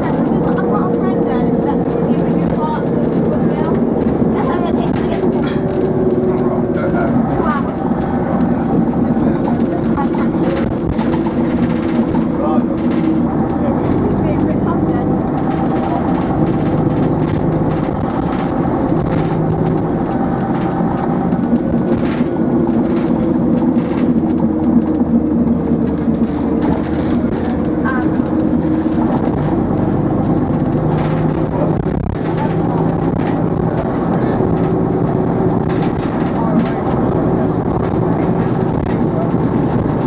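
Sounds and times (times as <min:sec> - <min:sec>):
bus engine running: 0:00.0 - 0:40.0.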